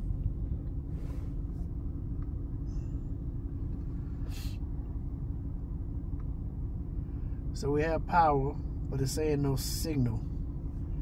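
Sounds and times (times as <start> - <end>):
vehicle engine hum in cab: 0.0 - 11.0.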